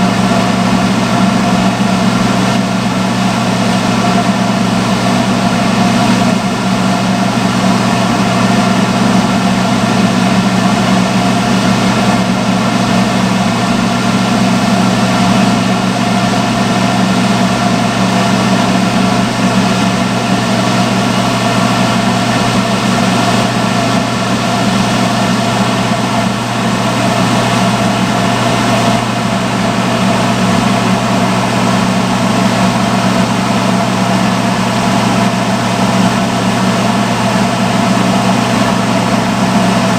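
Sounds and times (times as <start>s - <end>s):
hood hair dryer blower hum: 0.0s - 39.9s.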